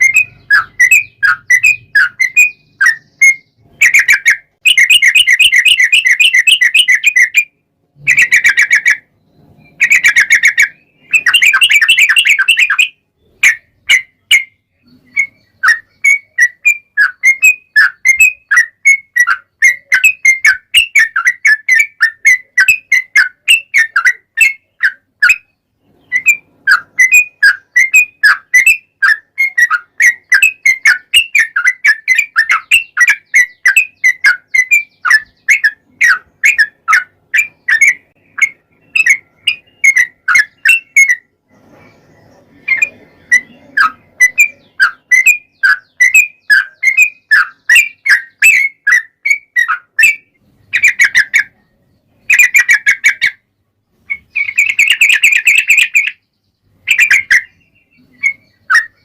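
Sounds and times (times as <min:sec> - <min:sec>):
bird singing whistled chirps: 0:00.0 - 0:53.4, 0:54.0 - 0:59.0.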